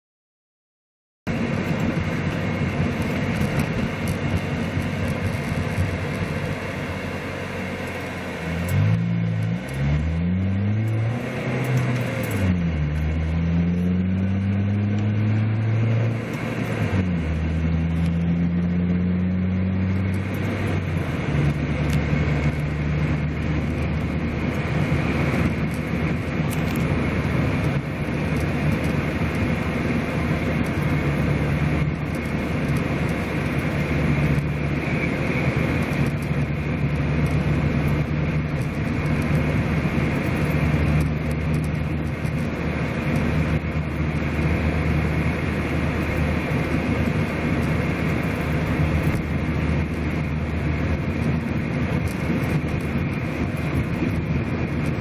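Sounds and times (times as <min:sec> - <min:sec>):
car engine accelerating: 0:01.3 - 0:55.0
road noise inside car: 0:01.3 - 0:55.0.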